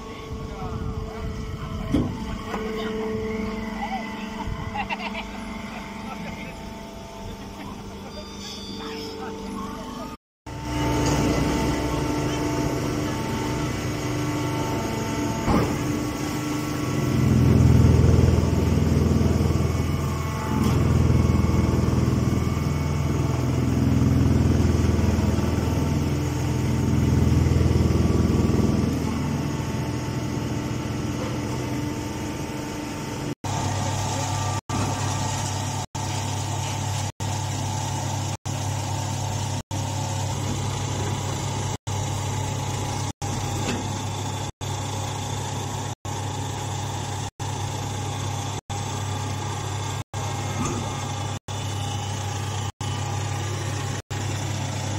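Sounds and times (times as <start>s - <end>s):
baling press machine hum: 0.0s - 54.9s
low machine rumble: 0.0s - 54.9s.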